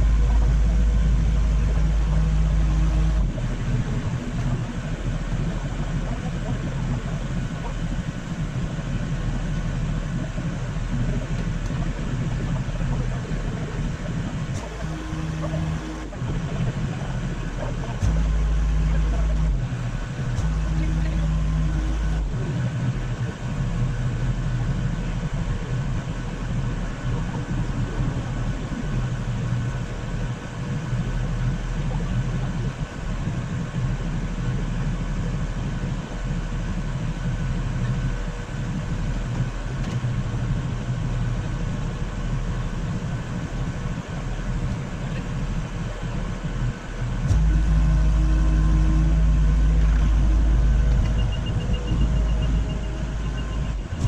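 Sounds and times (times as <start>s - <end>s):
deep engine rumble: 0.0s - 54.0s
machine engine idling: 0.0s - 54.0s.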